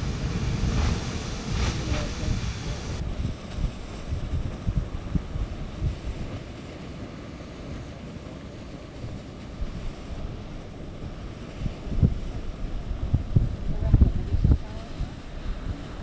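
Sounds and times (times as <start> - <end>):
wind buffeting microphone: 0.0 - 6.8, 8.9 - 16.0
geyser water and steam rushing: 0.0 - 16.0.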